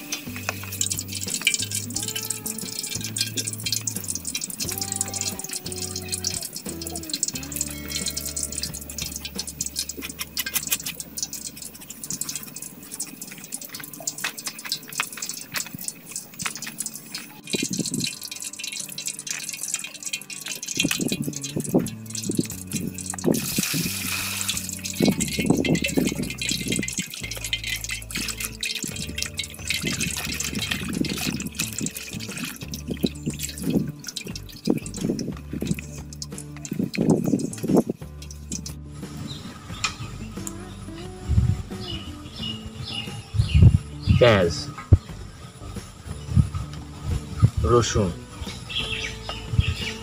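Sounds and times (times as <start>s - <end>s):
background music: 0.0s - 50.0s
water splashing in metal bowl: 0.0s - 50.0s.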